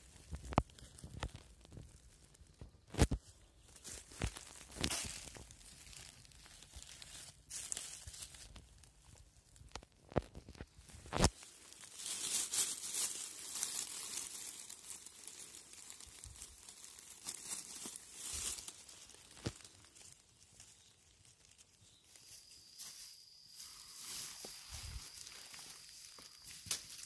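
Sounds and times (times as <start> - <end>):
dry leaves rustling and crunching: 0.0 - 27.0.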